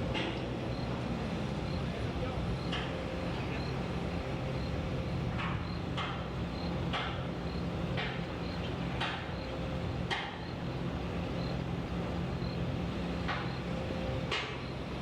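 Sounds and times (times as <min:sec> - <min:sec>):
heavy engine droning: 0:00.0 - 0:15.0.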